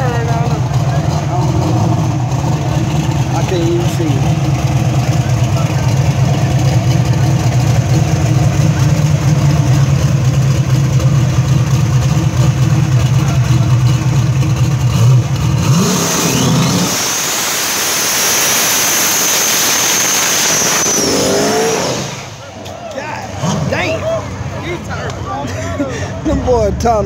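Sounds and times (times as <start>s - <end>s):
truck engine idling and revving: 0.0s - 27.0s.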